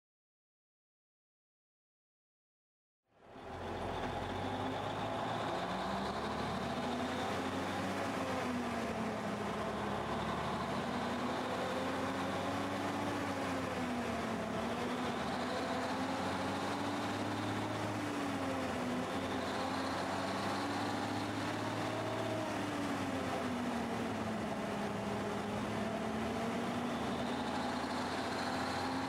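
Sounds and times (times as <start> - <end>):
truck engine running: 3.2 - 29.0.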